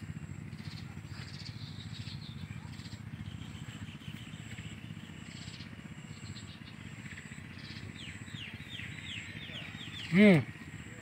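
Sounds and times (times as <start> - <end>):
low outdoor rumble: 0.0 - 11.0
bird calling descending notes: 0.1 - 11.0.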